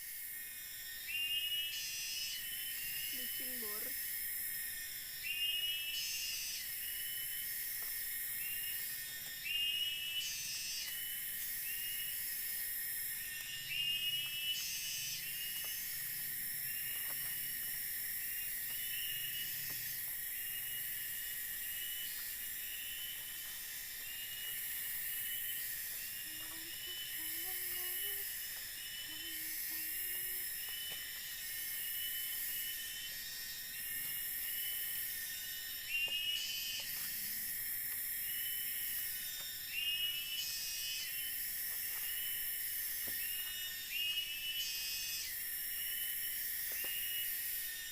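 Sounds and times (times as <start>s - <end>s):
high insect buzz: 0.0s - 47.9s
insects chirping: 0.0s - 47.9s.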